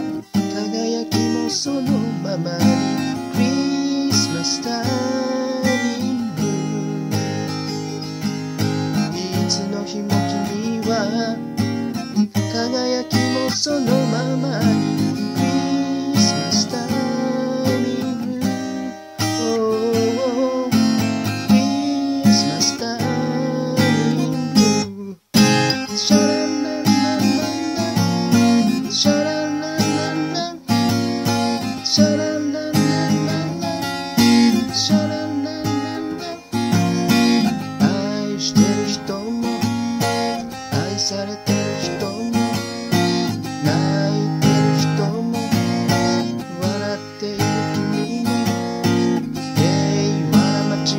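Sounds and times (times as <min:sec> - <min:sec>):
acoustic guitar strumming: 0:00.0 - 0:50.9.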